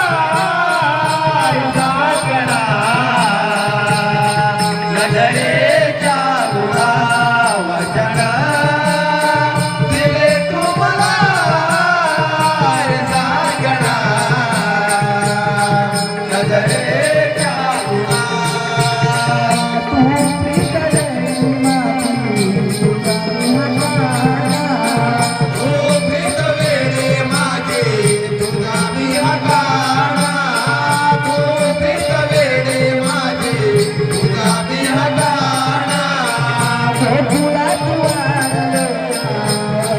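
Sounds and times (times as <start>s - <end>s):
instrumental accompaniment: 0.0s - 39.9s
person singing: 0.0s - 39.9s.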